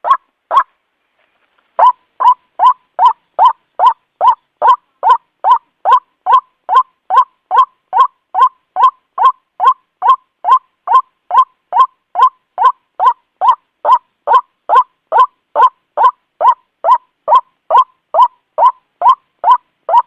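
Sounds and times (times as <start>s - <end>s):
bird calling harsh notes: 1.8s - 20.0s.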